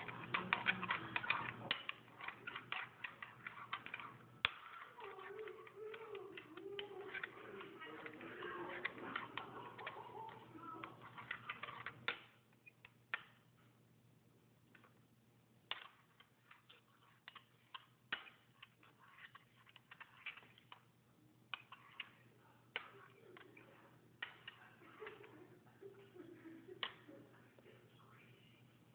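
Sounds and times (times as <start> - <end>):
slime being stirred: 0.0 - 13.8, 14.5 - 26.1.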